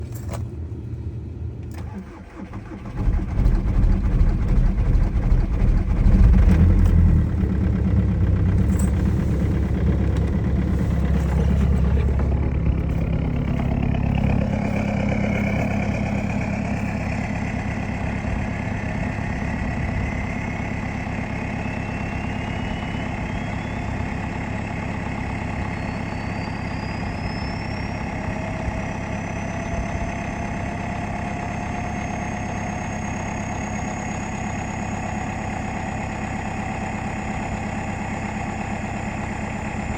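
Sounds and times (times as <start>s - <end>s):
diesel engine starting and idling: 0.0s - 39.9s.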